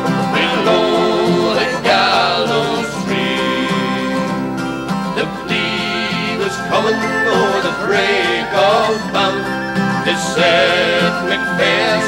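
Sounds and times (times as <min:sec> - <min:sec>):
acoustic instrument accompaniment: 0:00.0 - 0:12.0
men singing: 0:00.0 - 0:12.0.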